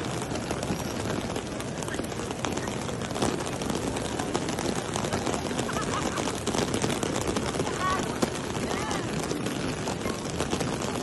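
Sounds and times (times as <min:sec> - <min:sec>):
rain on wet tiled floor: 0:00.0 - 0:11.0.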